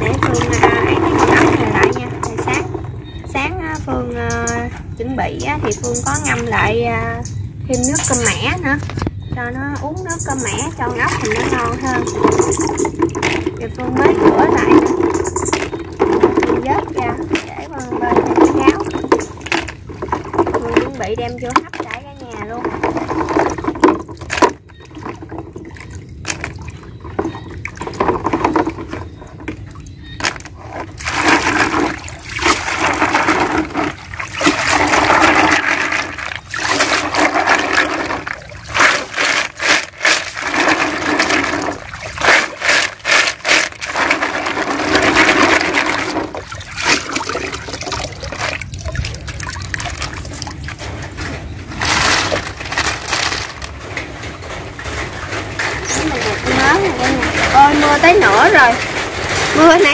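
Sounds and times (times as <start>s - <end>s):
water sloshing in a plastic basin: 0.0s - 59.9s.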